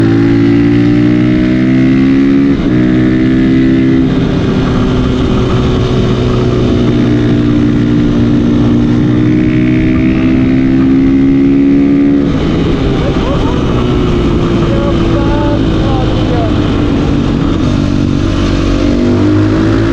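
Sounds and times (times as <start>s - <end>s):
motorcycle engine running under load: 0.0s - 19.9s.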